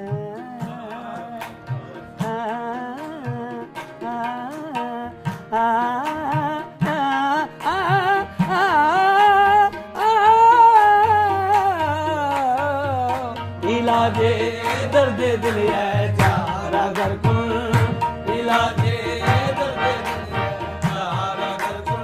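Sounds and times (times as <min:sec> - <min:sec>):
ornamented vocal melody: 0:00.0 - 0:22.0.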